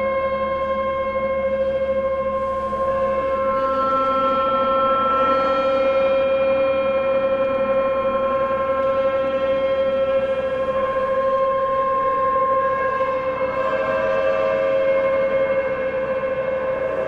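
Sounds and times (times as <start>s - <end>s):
singing bowls and gong drone: 0.0s - 17.0s.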